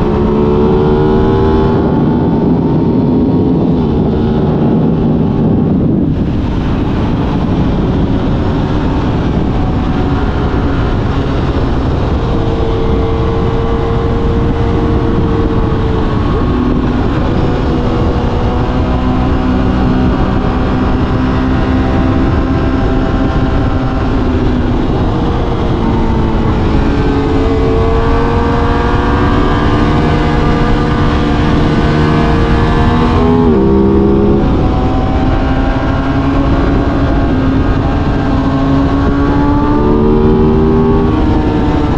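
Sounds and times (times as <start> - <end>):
motorcycle engine running: 0.0 - 41.9
wind rushing past microphone: 0.0 - 41.9.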